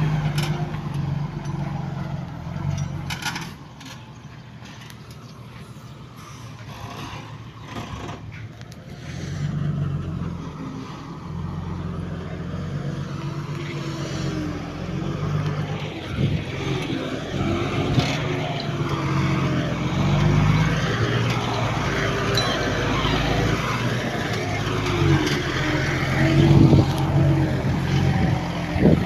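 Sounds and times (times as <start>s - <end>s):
heavy machine engine running: 0.0s - 29.0s.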